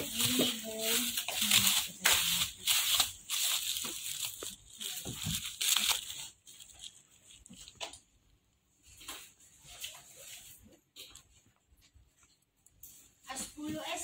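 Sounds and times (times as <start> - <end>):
bubble wrap crinkling: 0.0 - 13.4.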